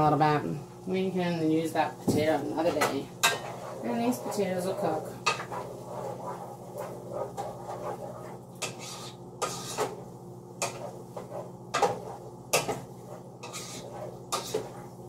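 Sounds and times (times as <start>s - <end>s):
steady low hum: 0.0s - 15.0s
spoon scraping cooking pot: 2.2s - 15.0s.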